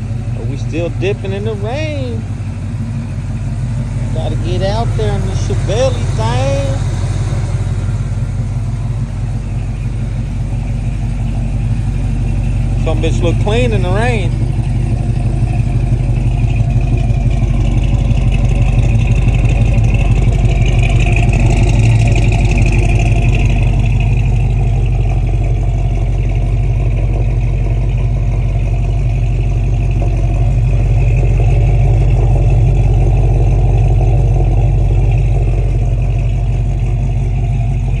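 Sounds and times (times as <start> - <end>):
car engine droning: 0.0 - 38.0.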